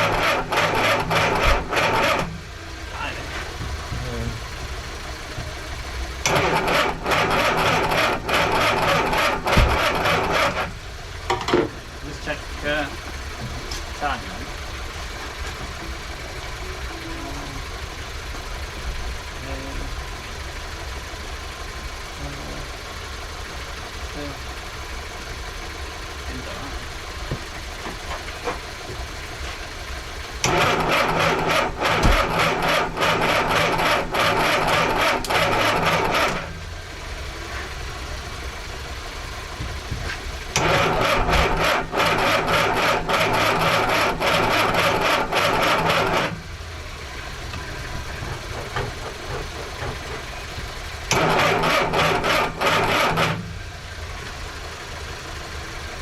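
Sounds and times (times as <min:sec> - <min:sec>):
starter motor cranking engine: 0:00.0 - 0:05.3, 0:06.1 - 0:16.9, 0:17.8 - 0:56.0.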